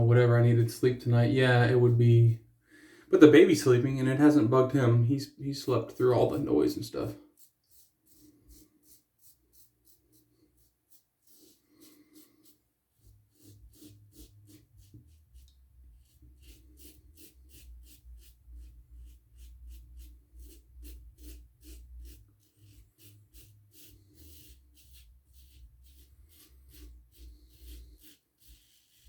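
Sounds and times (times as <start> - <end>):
razor scraping stubble: 5.5 - 29.0.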